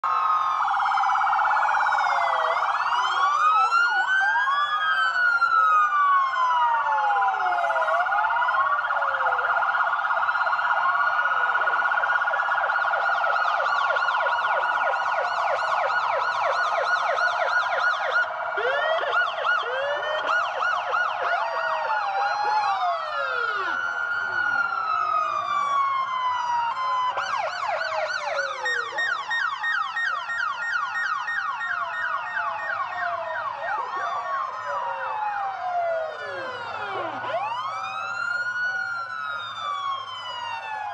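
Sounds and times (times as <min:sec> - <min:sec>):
emergency sirens wailing and yelping: 0:00.0 - 0:40.9
steady held siren tone: 0:00.0 - 0:40.9.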